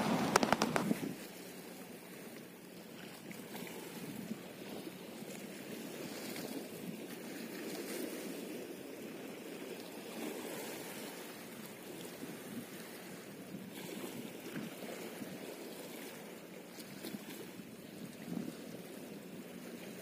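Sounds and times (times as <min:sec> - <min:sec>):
waves lapping against seawall: 0:00.0 - 0:20.0.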